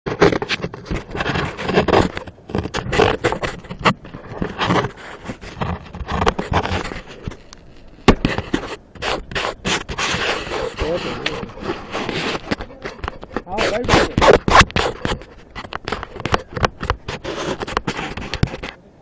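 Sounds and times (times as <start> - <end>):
microphone rubbing against fabric: 0.1 - 18.8.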